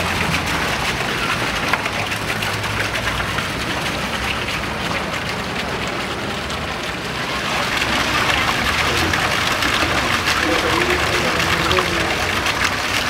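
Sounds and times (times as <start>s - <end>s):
rushing water patter: 0.0s - 13.0s.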